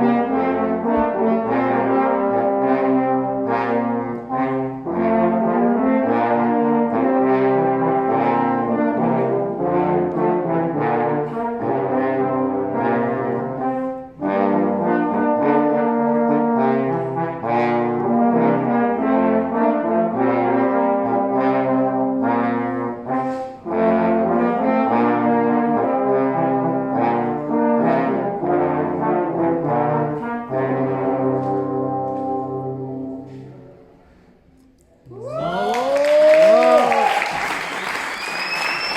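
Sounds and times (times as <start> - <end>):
french horn ensemble chords: 0.0 - 34.1.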